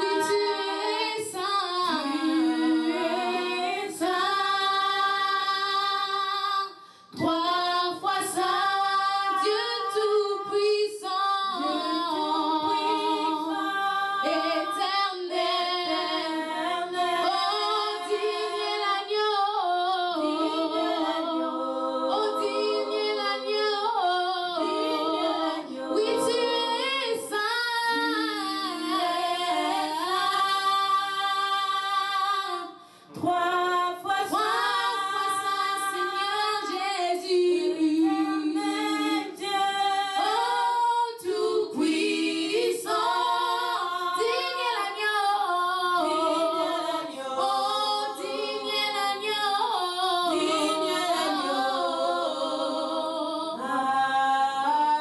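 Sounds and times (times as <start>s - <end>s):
women singing unaccompanied: 0.0s - 55.0s.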